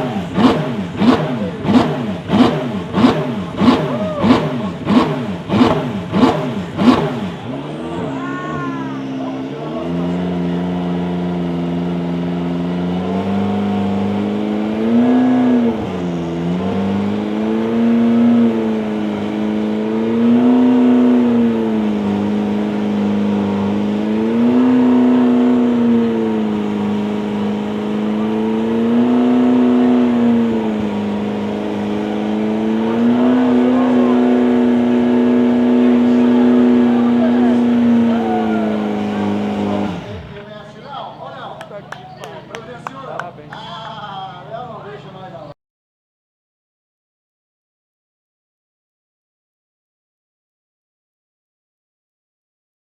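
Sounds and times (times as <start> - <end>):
race car engine: 0.0 - 45.6.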